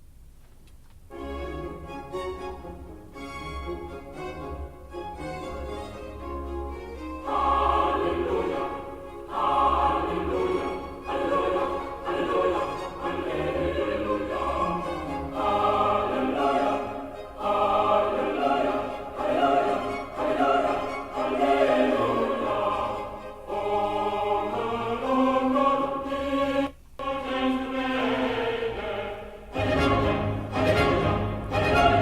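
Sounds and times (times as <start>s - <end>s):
choral music through speakers: 1.1s - 32.0s.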